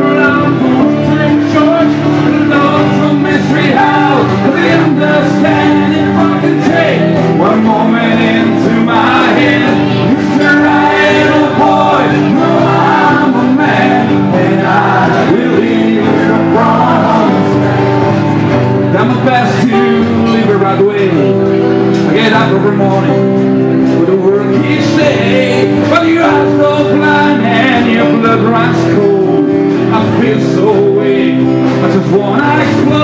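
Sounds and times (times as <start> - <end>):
live rock band playing: 0.0 - 33.0
man singing: 0.0 - 33.0
strummed acoustic guitar: 0.0 - 33.0.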